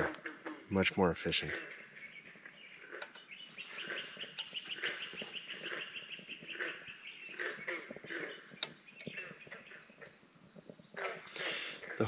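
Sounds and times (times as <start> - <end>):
bird chirps: 0.0 - 12.0
bird trilling: 0.0 - 12.0.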